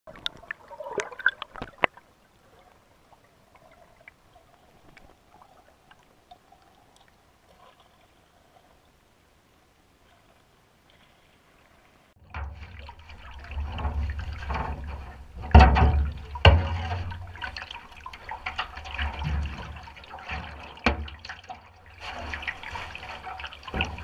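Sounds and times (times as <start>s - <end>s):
river water gurgling and splashing: 0.1s - 24.0s
underwater wash: 0.1s - 24.0s.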